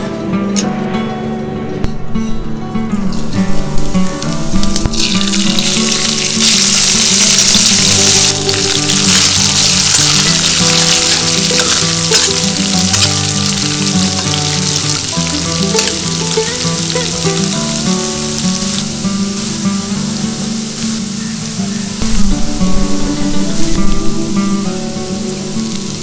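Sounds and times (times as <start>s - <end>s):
background music: 0.0s - 26.0s
spices sizzling in hot oil: 3.7s - 26.0s.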